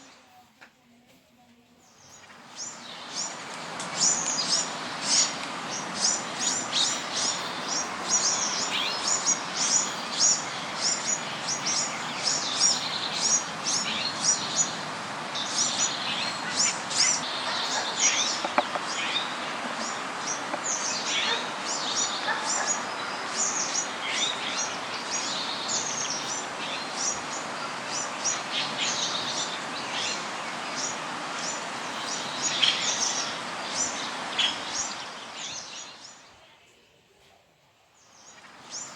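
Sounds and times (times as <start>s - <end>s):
background hiss: 0.0s - 38.9s
birds chirping: 1.8s - 36.6s, 38.0s - 38.9s.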